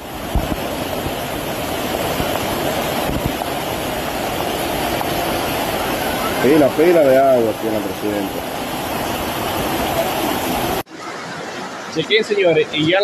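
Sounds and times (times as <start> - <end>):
torrential rain pouring: 0.0 - 13.0.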